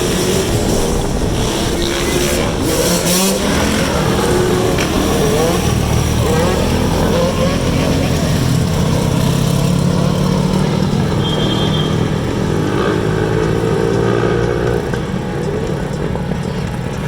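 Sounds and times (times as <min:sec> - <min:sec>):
motorcycle engines in traffic: 0:00.0 - 0:17.0.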